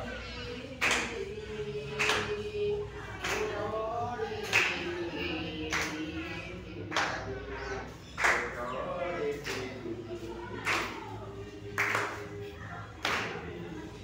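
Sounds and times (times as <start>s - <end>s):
voices singing held notes: 0.0s - 14.0s
group clapping slowly: 0.2s - 14.0s.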